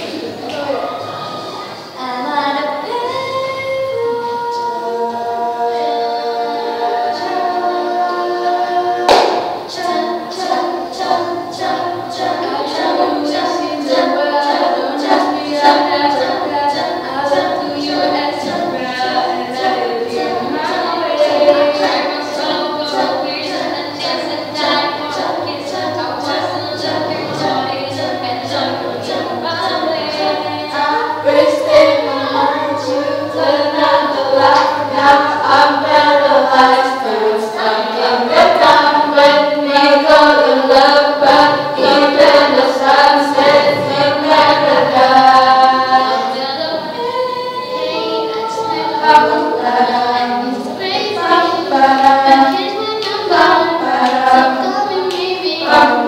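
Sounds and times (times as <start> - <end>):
women singing in harmony: 0.0 - 56.0.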